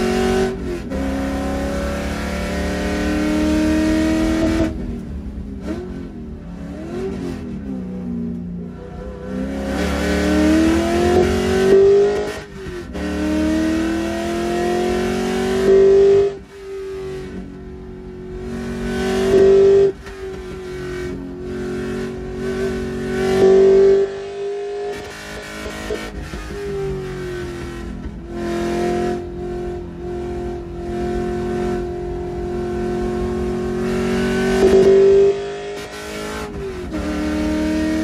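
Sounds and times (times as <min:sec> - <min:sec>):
race car engine revving: 0:00.0 - 0:38.0.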